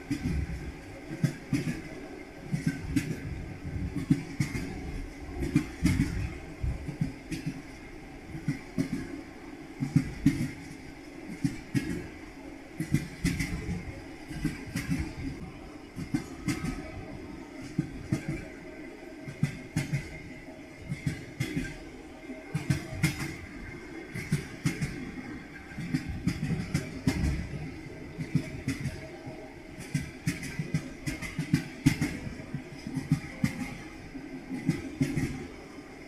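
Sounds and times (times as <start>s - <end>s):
train rolling rumble: 0.0s - 36.0s.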